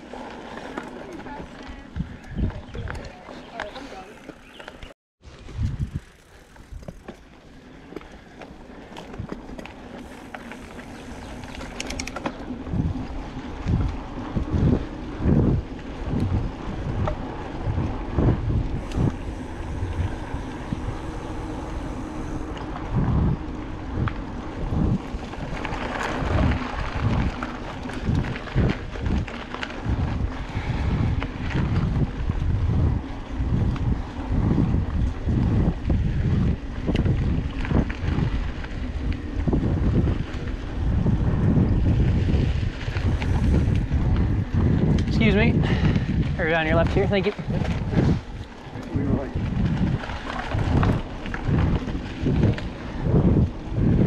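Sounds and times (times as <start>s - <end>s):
wind on microphone: 0.0s - 7.1s, 10.0s - 54.0s
bike tyre and drivetrain noise: 0.0s - 54.0s
low thuds of bike on bumps: 0.0s - 54.0s.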